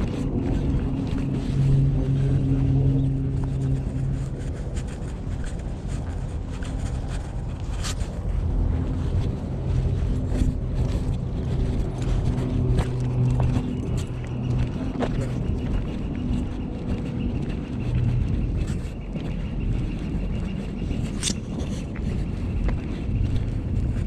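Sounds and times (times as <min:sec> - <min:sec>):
footsteps clicking: 0:00.0 - 0:24.0
leash handling: 0:00.0 - 0:24.0
steady low hum: 0:00.0 - 0:24.0
wind rumbling on microphone: 0:00.0 - 0:24.0.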